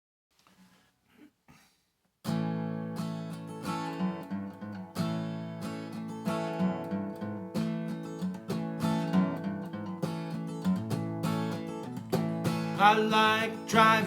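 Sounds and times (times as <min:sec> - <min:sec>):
strummed acoustic guitar: 0:02.2 - 0:14.0.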